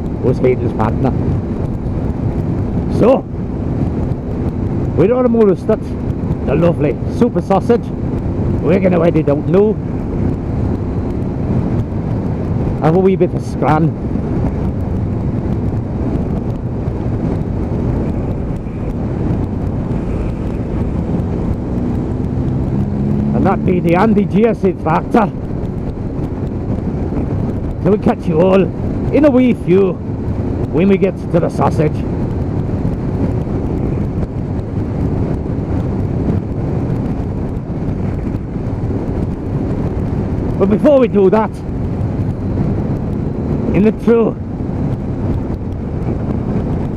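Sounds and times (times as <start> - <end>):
motorcycle engine hum: 0.0 - 46.9
wind buffeting microphone: 0.0 - 46.9.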